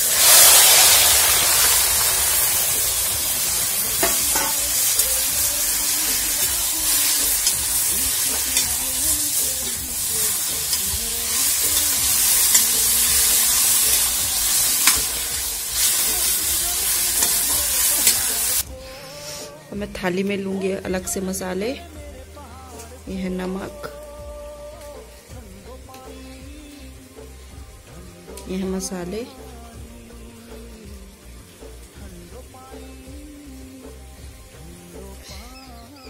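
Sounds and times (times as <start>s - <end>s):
greens sizzling in hot oil: 0.0s - 18.6s, 21.3s - 36.0s.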